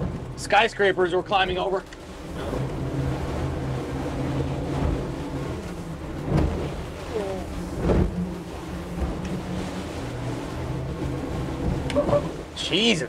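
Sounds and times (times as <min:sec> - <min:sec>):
hull thumping on waves: 0:00.0 - 0:13.0
outboard engines running: 0:00.0 - 0:13.0
rushing water: 0:00.0 - 0:13.0
wind: 0:00.0 - 0:13.0.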